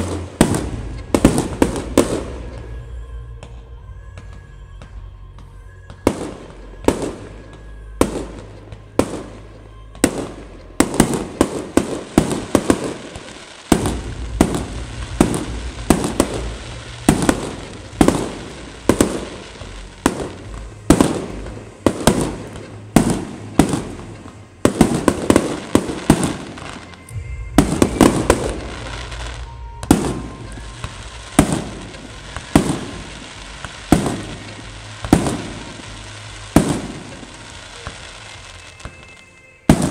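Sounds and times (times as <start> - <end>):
background music: 0.0 - 39.9
fireworks shells bursting: 0.0 - 39.9.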